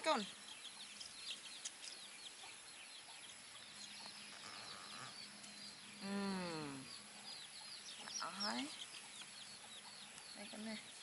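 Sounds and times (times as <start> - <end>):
faint high bird chirping: 0.0 - 11.0.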